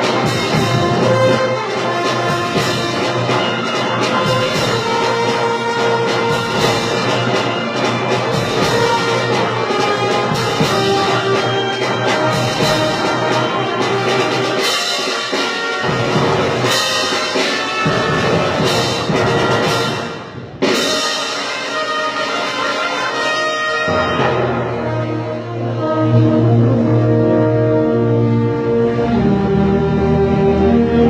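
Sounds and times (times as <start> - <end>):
wind band playing a march: 0.0 - 31.0.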